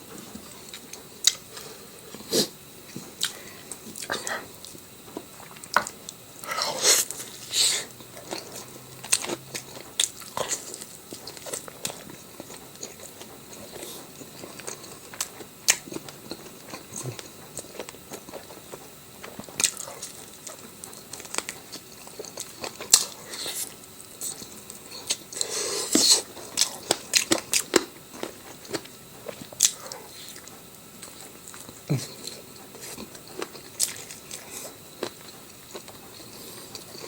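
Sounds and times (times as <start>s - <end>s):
person chewing and crunching: 0.3s - 37.0s.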